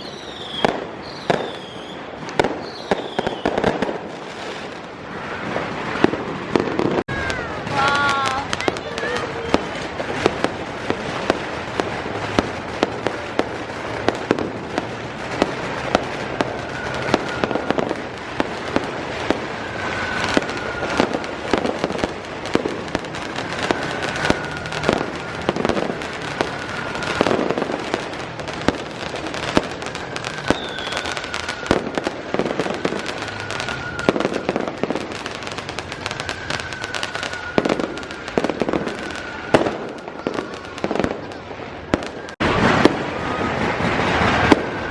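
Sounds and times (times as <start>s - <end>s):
faint firework whistle: 0.0s - 10.5s, 14.0s - 44.9s
firecrackers crackling: 0.0s - 44.9s
fireworks bangs: 0.0s - 44.9s.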